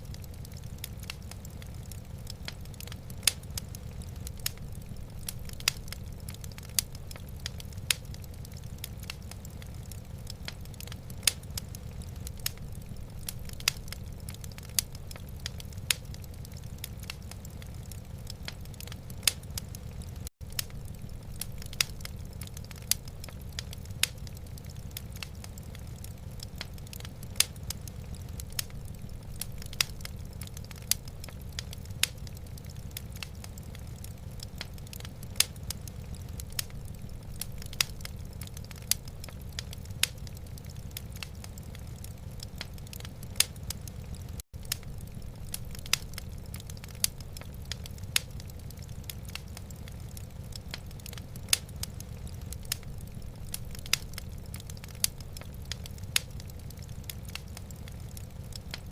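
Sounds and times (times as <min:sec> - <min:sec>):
low rumble of fire: 0:00.0 - 0:58.9
wood fire crackling: 0:00.0 - 0:58.9.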